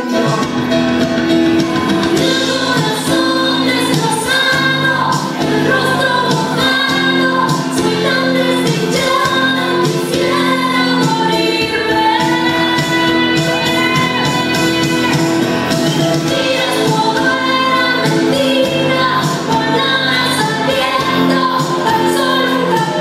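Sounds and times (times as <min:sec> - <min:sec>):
band accompaniment with steady beat: 0:00.0 - 0:23.0
woman singing: 0:02.0 - 0:23.0.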